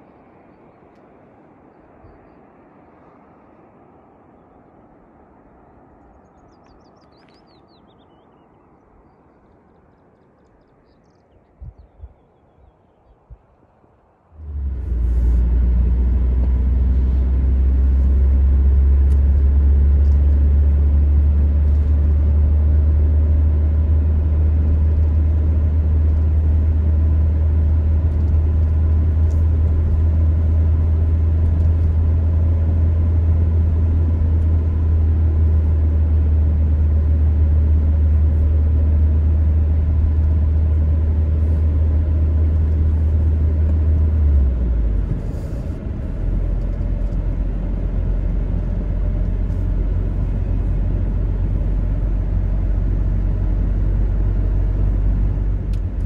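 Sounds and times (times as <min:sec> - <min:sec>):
car driving at road speed: 0:00.0 - 0:56.0.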